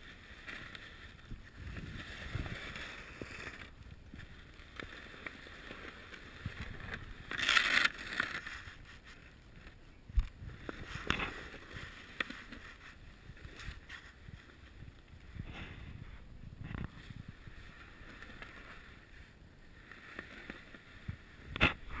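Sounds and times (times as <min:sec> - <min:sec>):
clothing rustling against snow: 0:00.0 - 0:09.7, 0:10.4 - 0:22.0.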